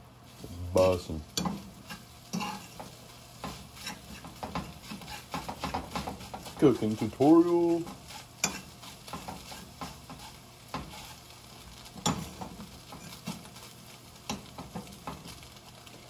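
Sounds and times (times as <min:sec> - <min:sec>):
eggs sizzling in a frying pan: 0:00.0 - 0:16.0.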